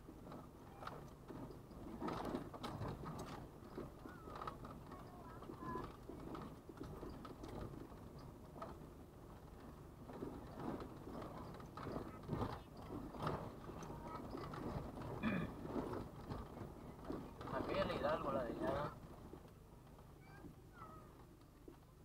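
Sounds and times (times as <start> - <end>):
tyres knocking and rattling: 0.0 - 22.0.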